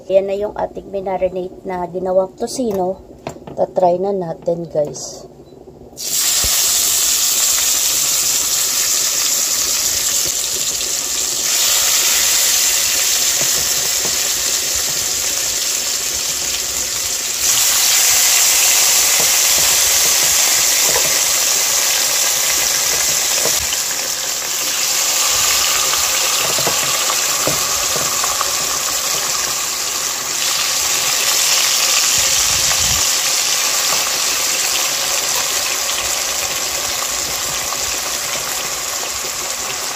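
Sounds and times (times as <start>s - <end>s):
meat sizzling in hot oil: 6.0s - 39.9s.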